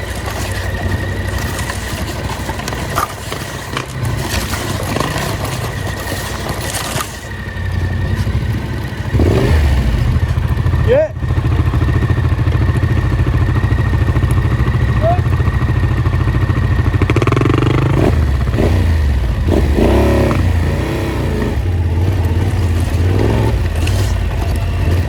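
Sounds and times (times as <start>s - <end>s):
off-road vehicle engine: 0.0s - 25.0s.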